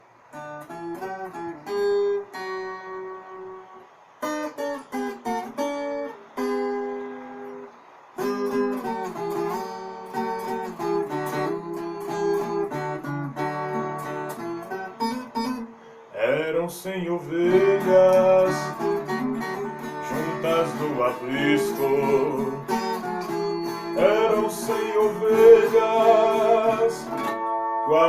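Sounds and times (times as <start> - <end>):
plucked guitar-like strings: 0.4 - 15.7, 17.3 - 28.0.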